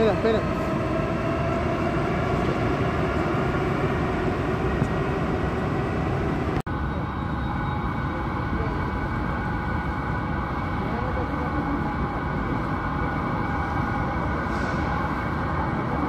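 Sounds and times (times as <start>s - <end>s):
metro train rumbling: 0.0s - 16.0s.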